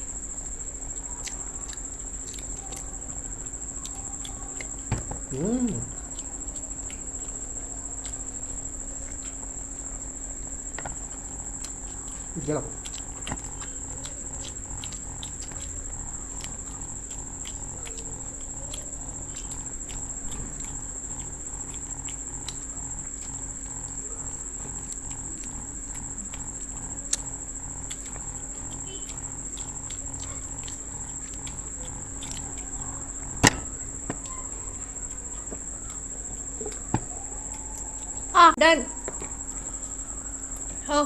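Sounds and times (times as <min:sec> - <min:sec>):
low steady hum: 0:00.0 - 0:41.0
people chewing: 0:00.0 - 0:41.0.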